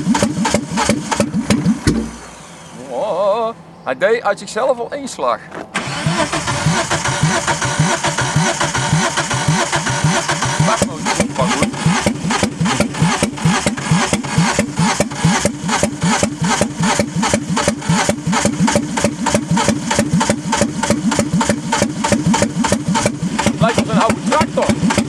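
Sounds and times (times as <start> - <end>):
engine cranking without starting: 0.0 - 3.0, 5.6 - 25.0.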